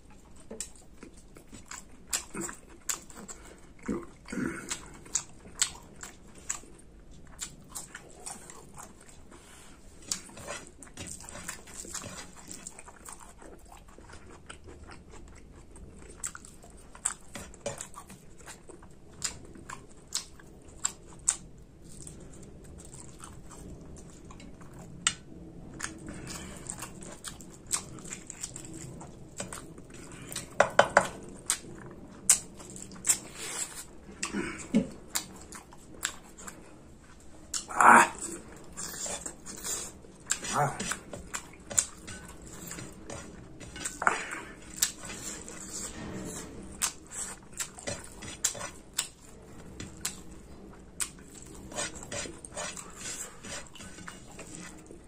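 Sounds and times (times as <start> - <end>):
man chewing food: 0.0 - 55.0.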